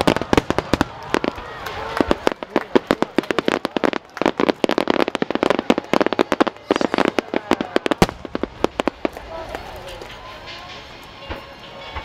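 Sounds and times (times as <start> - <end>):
fireworks bursting with bangs and crackles: 0.0 - 12.0.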